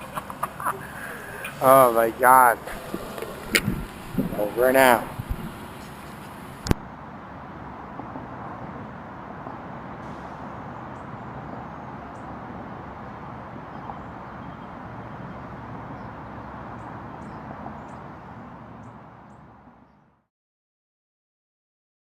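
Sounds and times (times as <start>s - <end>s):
distant traffic rumble: 0.0s - 20.2s.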